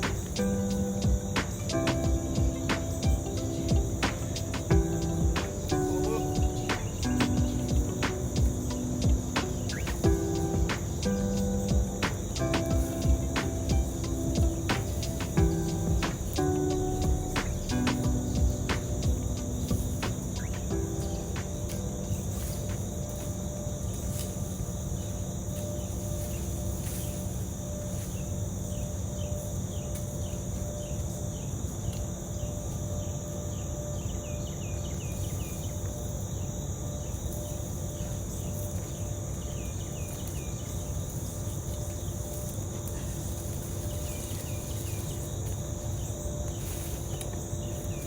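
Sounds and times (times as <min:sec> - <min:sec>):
crickets chirping drone: 0:00.0 - 0:48.0.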